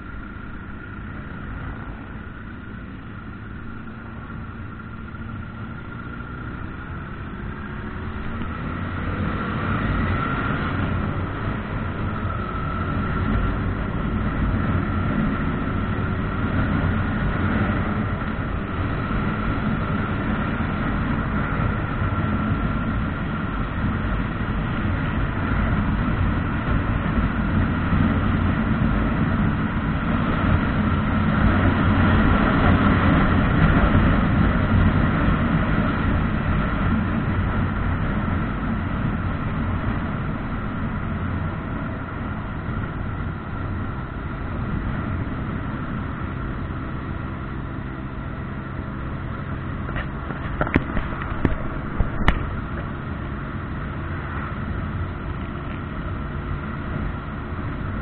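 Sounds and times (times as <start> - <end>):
motorcycle engine accelerating: 0.0 - 58.0
road and wind noise: 0.0 - 58.0.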